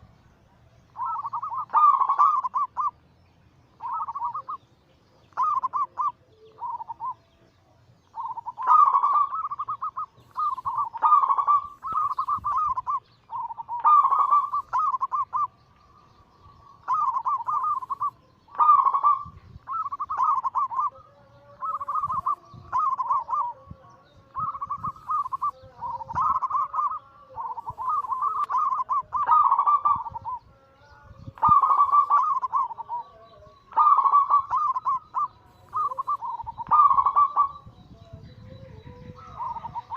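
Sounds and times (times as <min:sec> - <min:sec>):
lower-pitched bird call: 0:00.8 - 0:39.9
doves cooing: 0:00.9 - 0:03.0, 0:03.8 - 0:07.4, 0:08.1 - 0:39.9.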